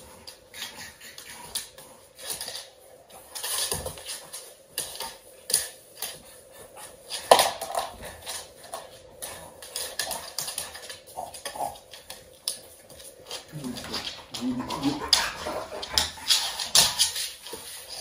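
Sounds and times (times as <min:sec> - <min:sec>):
dog claws clicking on floor: 0:00.0 - 0:18.0.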